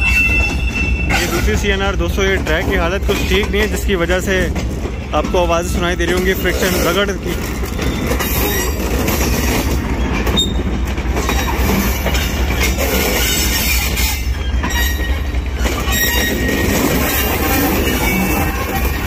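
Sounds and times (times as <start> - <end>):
heavy train rumble: 0.0 - 19.0
train wheels squealing on rails: 0.0 - 19.0.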